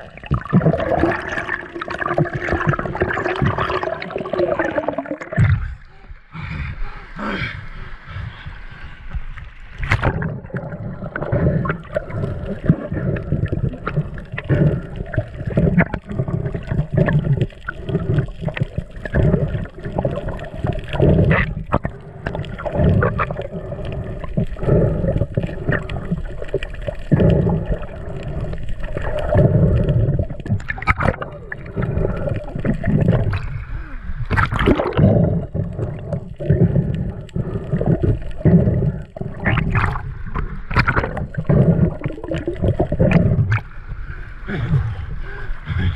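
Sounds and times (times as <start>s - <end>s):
muffled underwater rushing: 0.0s - 45.9s.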